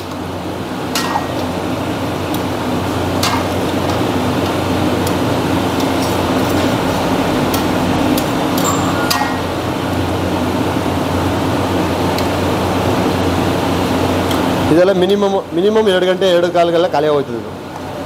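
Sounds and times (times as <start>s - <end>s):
loud steady hum: 0.0s - 18.0s.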